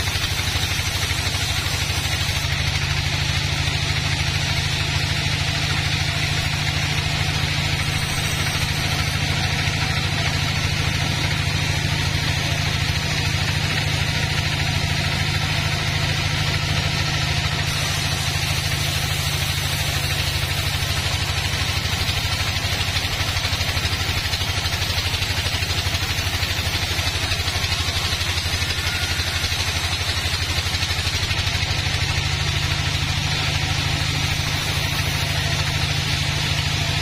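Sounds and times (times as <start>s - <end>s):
band saw cutting log: 0.0s - 37.0s.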